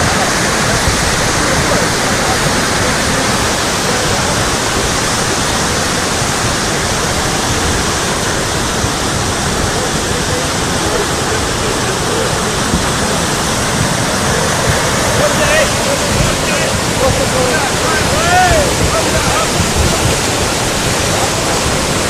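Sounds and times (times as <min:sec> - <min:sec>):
muddy water rushing and churning: 0:00.0 - 0:22.0.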